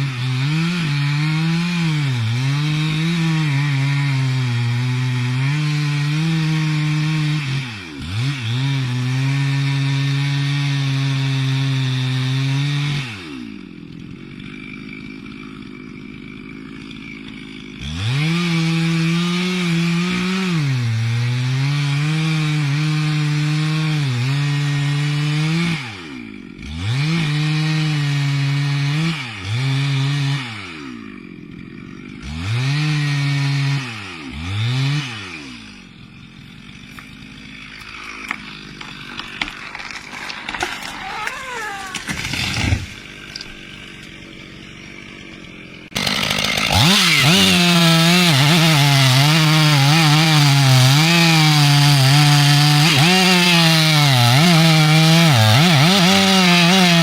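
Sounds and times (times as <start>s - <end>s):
chainsaw cutting a tree: 0.0s - 57.0s.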